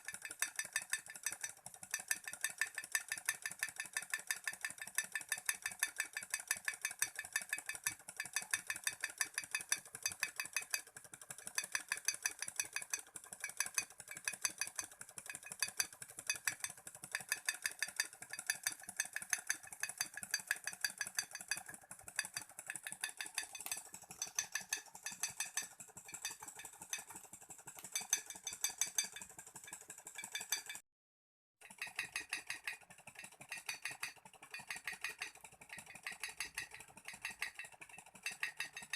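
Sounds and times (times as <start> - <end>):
stirling engine clicking rattle: 0.0 - 30.8, 31.6 - 38.9.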